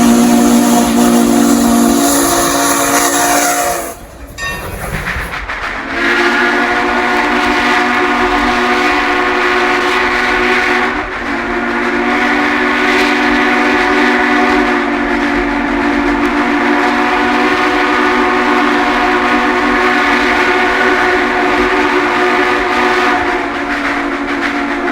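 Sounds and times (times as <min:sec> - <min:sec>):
train whistle chord: 0:00.0 - 0:04.1, 0:05.8 - 0:24.9.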